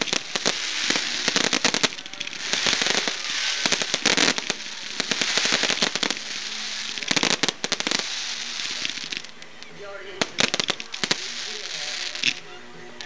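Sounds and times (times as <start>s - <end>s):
fireworks crackling pops and bangs: 0.0s - 13.0s
fireworks fizz: 0.0s - 13.0s.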